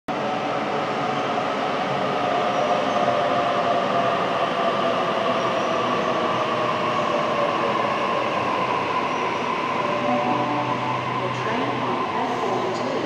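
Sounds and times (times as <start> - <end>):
electric train rumbling: 0.1 - 13.0.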